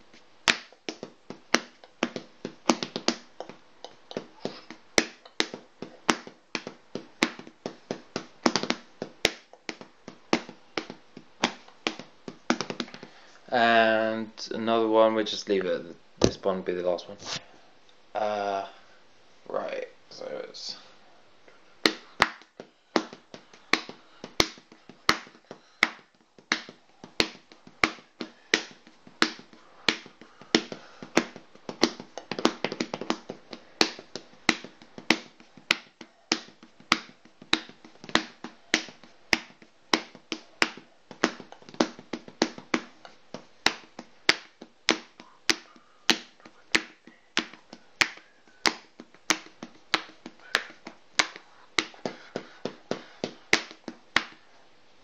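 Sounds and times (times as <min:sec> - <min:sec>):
percussion beat of taps and clicks: 0:00.1 - 0:13.2, 0:21.8 - 0:54.4.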